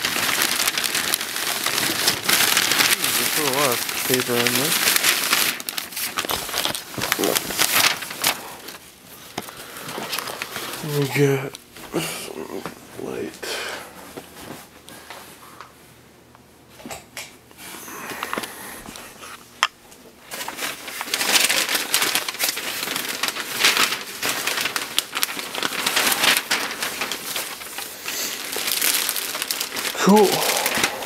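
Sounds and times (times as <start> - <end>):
paper and plastic bags crinkling: 0.0 - 15.4, 20.0 - 31.0.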